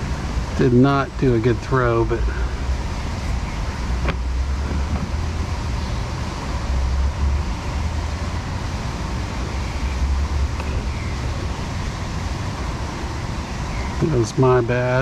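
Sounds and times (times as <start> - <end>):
even hiss: 0.0 - 15.0
low uneven rumble: 0.0 - 15.0.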